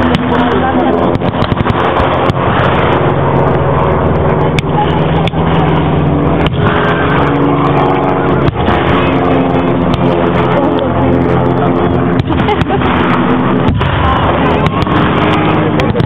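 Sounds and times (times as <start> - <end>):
heavy engine running: 0.0 - 16.0.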